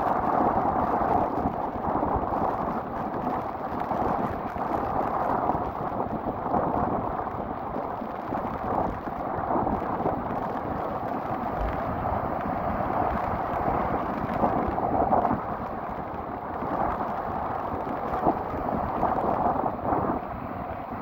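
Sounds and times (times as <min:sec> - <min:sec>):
storm waves breaking on rocks: 0:00.0 - 0:21.0
wind buffeting microphone: 0:00.0 - 0:21.0.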